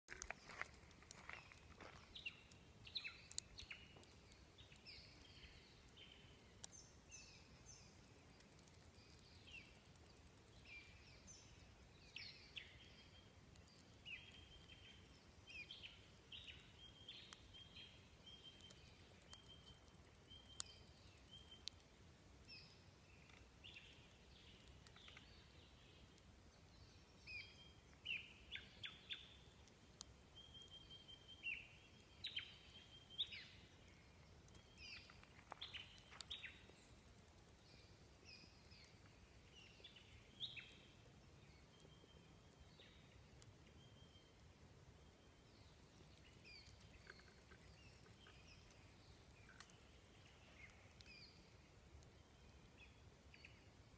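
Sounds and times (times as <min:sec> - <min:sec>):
faint birdsong: 0:00.0 - 0:53.9.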